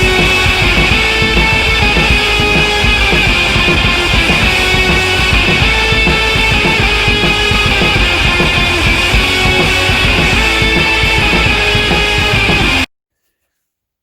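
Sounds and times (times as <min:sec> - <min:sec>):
loud rock music: 0:00.0 - 0:12.9.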